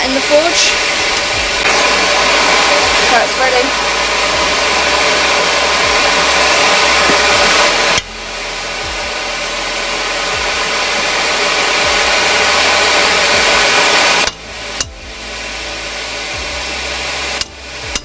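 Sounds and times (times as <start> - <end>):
forge air roaring: 0.0 - 18.0.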